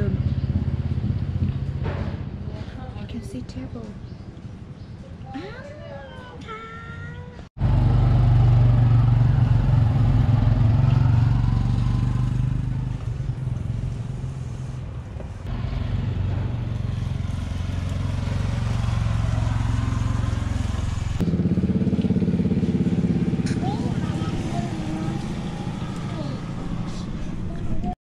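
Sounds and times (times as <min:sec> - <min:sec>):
engine running: 0:00.0 - 0:02.4, 0:07.6 - 0:28.0.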